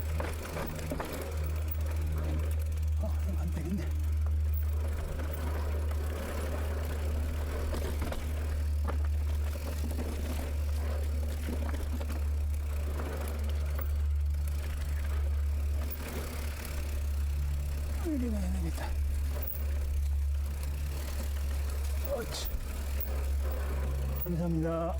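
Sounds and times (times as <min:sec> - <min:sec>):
bike rattling and clicking: 0:00.0 - 0:24.9
bike tyres rumbling on dirt: 0:00.0 - 0:24.9.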